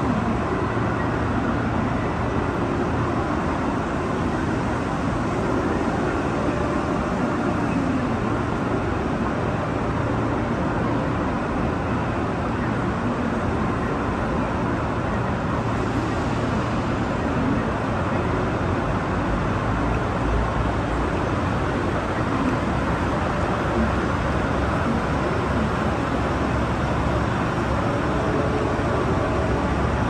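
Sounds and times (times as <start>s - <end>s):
railway station din: 0.0s - 30.0s.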